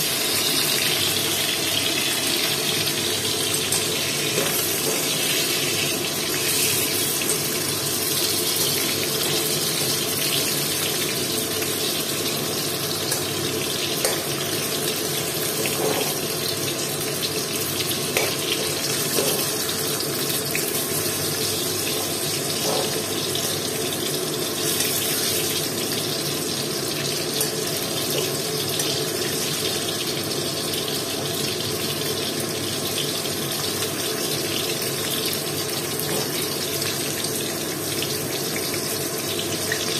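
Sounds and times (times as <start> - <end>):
potatoes sizzling in hot oil: 0.0 - 39.9.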